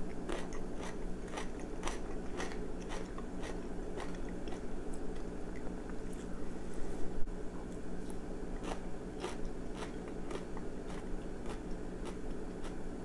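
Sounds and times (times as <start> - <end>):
person chewing crunchy food: 0.0 - 6.4, 7.7 - 13.0.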